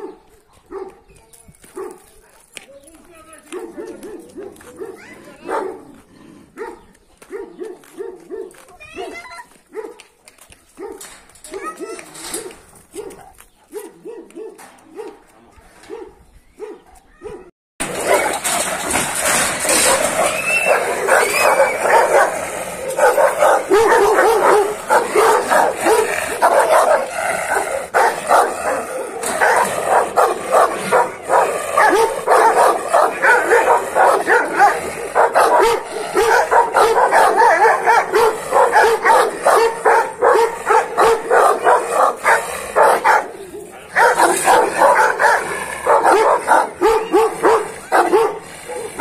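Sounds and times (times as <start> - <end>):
dogs barking aggressively: 0.0 - 2.5, 3.4 - 49.0.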